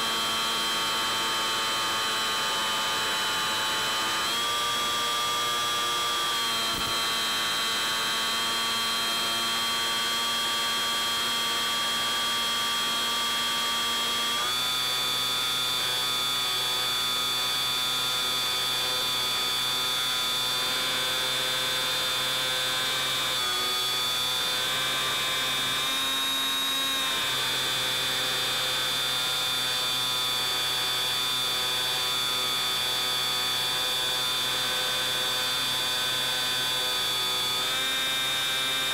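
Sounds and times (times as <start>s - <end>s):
model plane motor whining: 0.0s - 38.9s.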